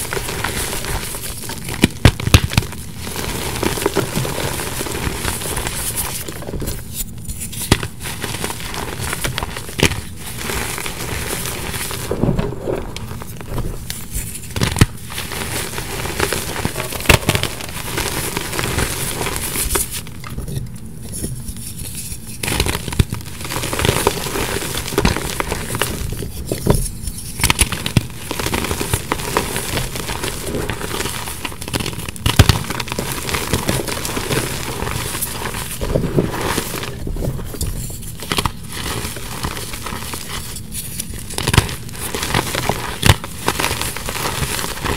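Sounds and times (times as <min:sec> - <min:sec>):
hands crumbling powdered chalk: 0:00.0 - 0:44.9.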